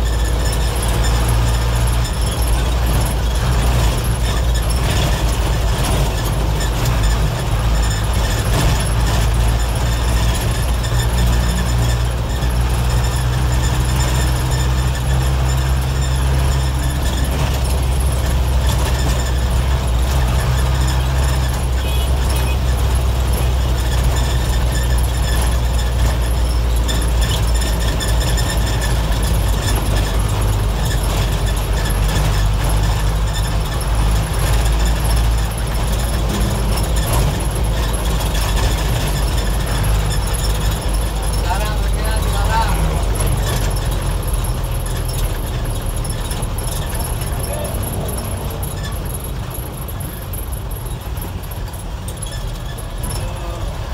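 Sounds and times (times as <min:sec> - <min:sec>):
bus diesel engine drone: 0:00.0 - 0:53.9
road and body noise: 0:00.0 - 0:53.9.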